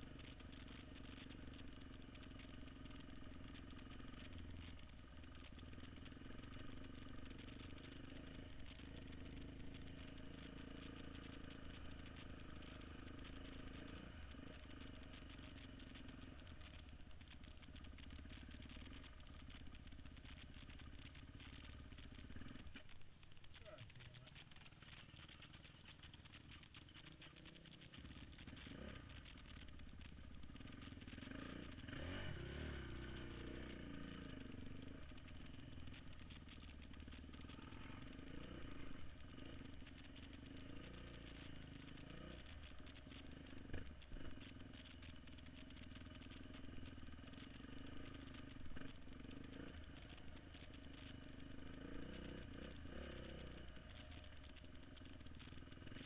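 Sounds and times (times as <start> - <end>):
off-road vehicle engine: 0.0 - 56.0.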